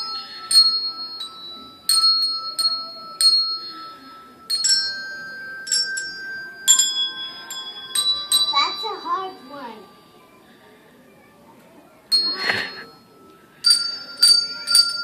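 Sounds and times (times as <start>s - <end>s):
handbells ringing a tune: 0.0s - 10.4s, 12.1s - 15.0s.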